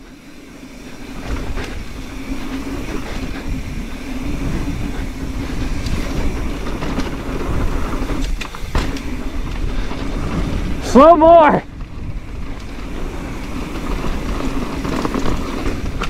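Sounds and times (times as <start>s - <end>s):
bike rattling over bumps: 0.0s - 16.0s
bike tyre rumble: 0.0s - 16.0s.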